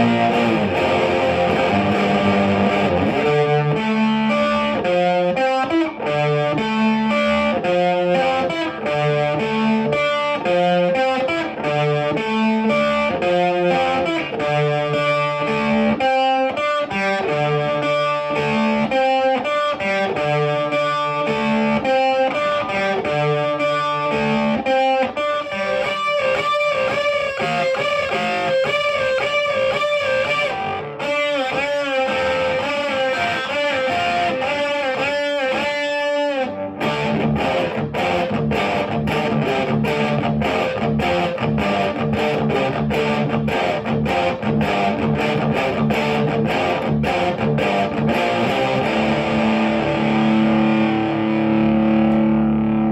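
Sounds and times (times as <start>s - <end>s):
distorted electric guitar: 0.0s - 52.9s.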